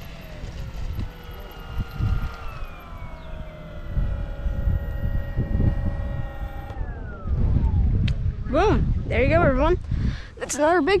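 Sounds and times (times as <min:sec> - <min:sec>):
electric model plane motor whining: 0:00.0 - 0:09.6
wind rumbling on microphone: 0:00.0 - 0:11.0.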